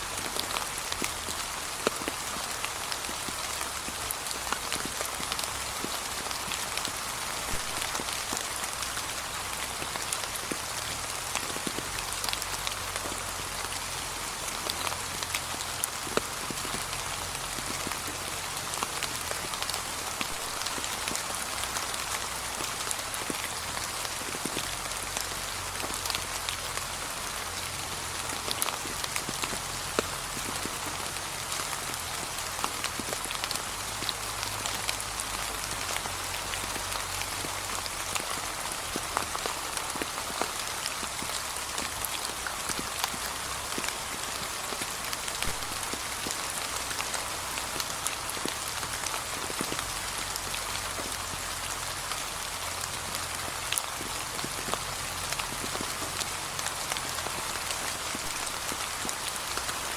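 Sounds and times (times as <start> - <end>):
rain on fallen leaves: 0.0 - 59.9.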